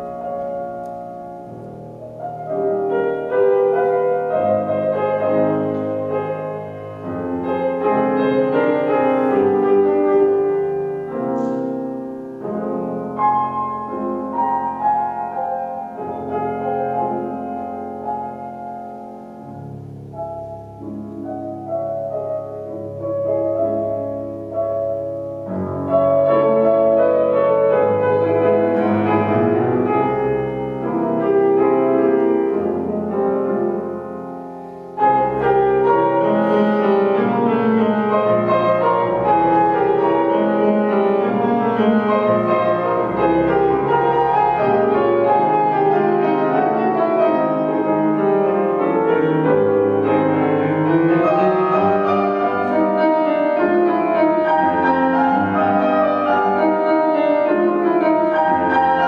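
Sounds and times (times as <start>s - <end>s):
grand piano playing quick notes: 0.0s - 59.0s.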